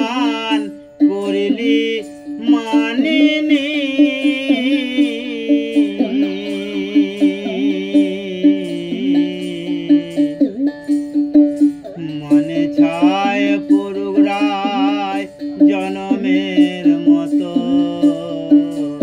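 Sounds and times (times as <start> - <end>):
held wavering melody tones: 0.0 - 19.0
plucked string instrument: 0.0 - 19.0.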